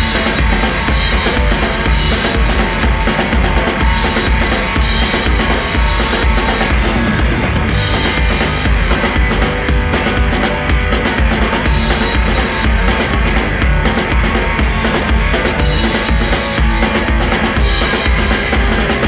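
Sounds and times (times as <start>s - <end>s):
drum kit beat: 0.0s - 19.0s
heavy bass: 0.0s - 19.0s
rock band playing: 0.0s - 19.0s.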